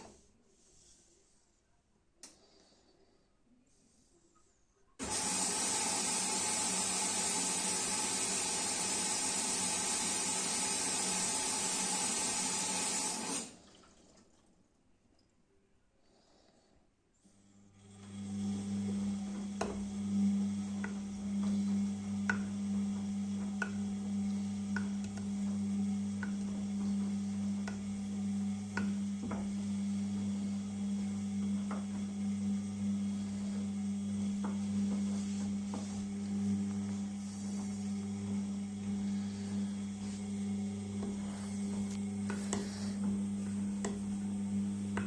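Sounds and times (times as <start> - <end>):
washing machine humming: 5.0 - 14.5, 17.6 - 45.0.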